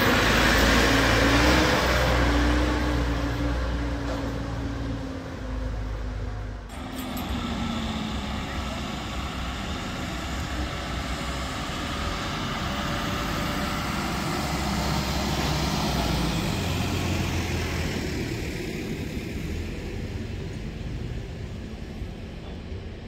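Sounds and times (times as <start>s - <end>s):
backhoe diesel engine driving by: 0.0s - 23.0s.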